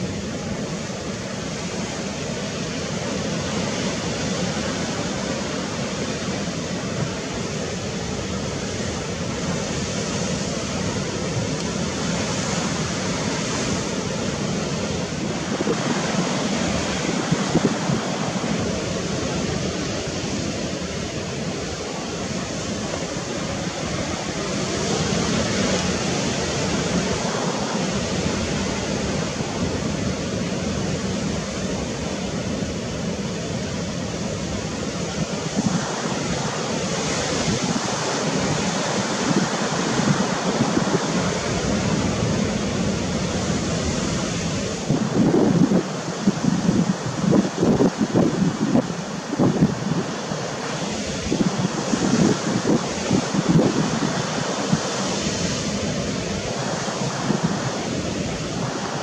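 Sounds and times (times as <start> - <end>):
sea surf: 0.0 - 59.0
wind: 0.0 - 59.0
wind buffeting microphone: 0.0 - 59.0.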